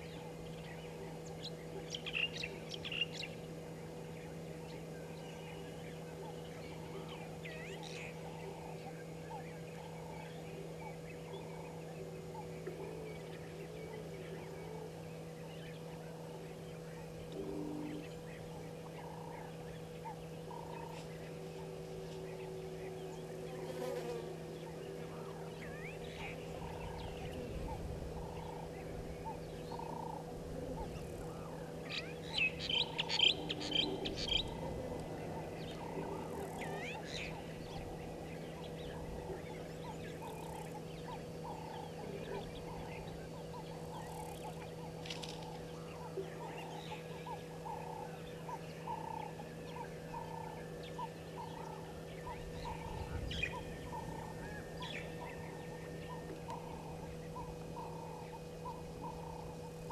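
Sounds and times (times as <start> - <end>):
frogs calling: 0.0 - 59.9
high chattering bird calls: 0.0 - 59.9
low hum: 0.0 - 59.9.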